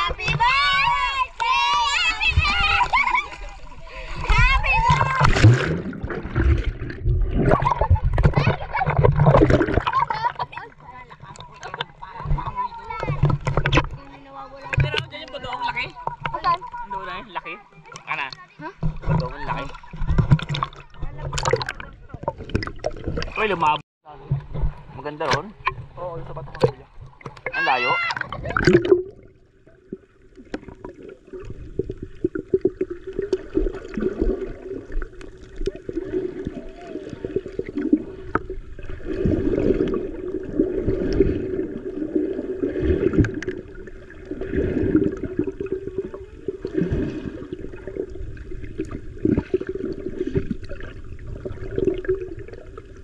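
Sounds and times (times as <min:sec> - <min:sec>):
water splash: 0:00.0 - 0:17.2, 0:17.8 - 0:53.0.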